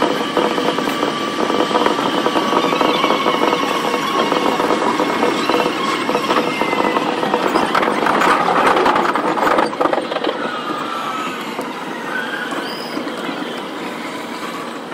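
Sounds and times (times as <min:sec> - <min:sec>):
high wheel squeals: 0:00.0 - 0:08.3, 0:09.4 - 0:14.9
train wheel and rail rumble: 0:00.0 - 0:14.9.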